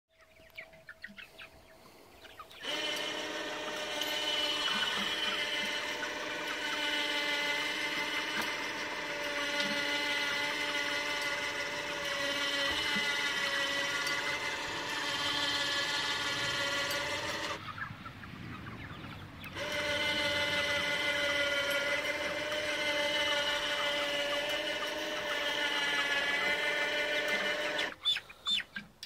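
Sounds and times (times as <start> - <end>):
electric winch motor whining: 2.6 - 17.6, 19.5 - 28.0.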